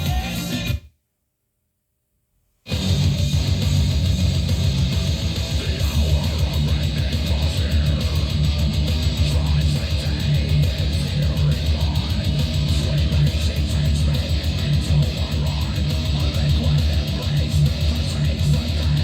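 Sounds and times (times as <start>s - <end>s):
guitar music with heavy bass: 0.0s - 0.8s, 2.7s - 19.0s.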